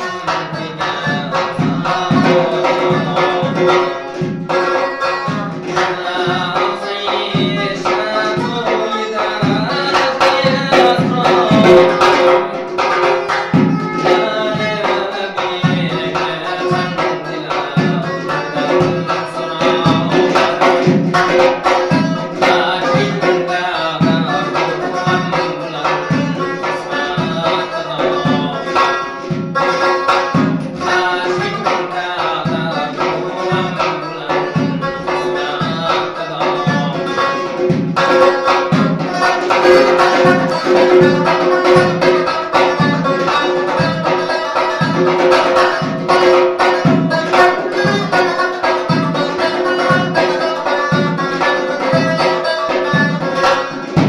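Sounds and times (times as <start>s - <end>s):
frame drum beating: 0.0s - 54.0s
lute strummed quickly: 0.0s - 54.0s.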